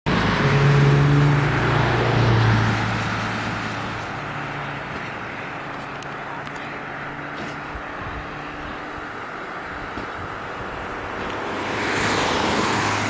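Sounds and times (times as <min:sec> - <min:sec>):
vehicle engine running: 0:00.1 - 0:13.0.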